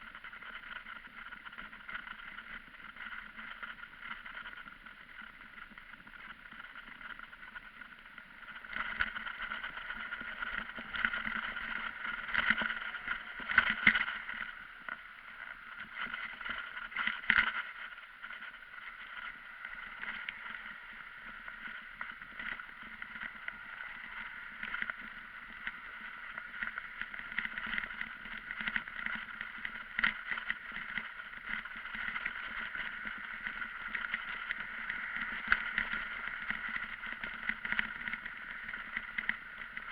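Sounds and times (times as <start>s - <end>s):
wind: 0.0s - 39.9s
bike riding noise: 0.1s - 39.9s.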